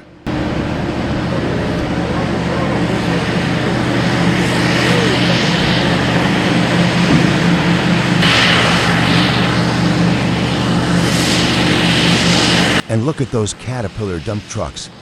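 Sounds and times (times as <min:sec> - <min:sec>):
excavator diesel engine droning: 0:00.0 - 0:15.0
rushing noise: 0:00.0 - 0:15.0.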